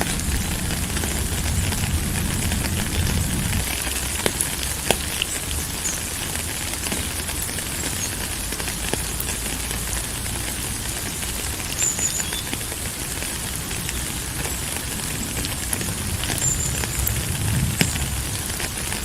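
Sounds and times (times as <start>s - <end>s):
rain drop ticks: 0.0s - 19.0s
steady rain hiss: 0.0s - 19.0s.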